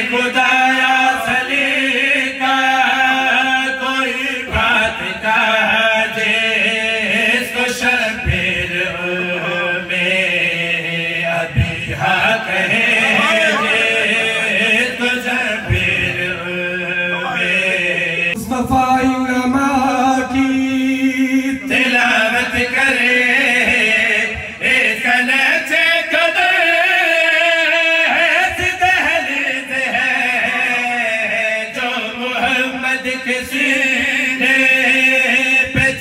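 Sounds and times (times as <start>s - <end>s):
man chanting melodically: 0.0s - 36.0s.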